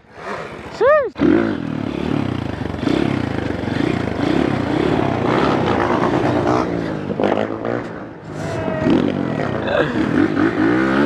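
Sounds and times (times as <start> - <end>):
dirt bike engine revving: 0.1 - 11.0.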